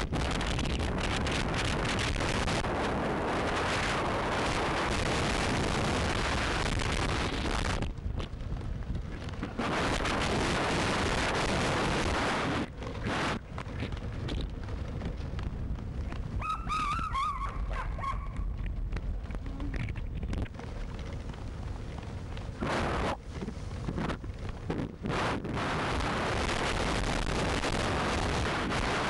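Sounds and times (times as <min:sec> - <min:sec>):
wheeled rig road rumble: 0:00.0 - 0:29.0
wind buffeting microphone: 0:00.0 - 0:29.0.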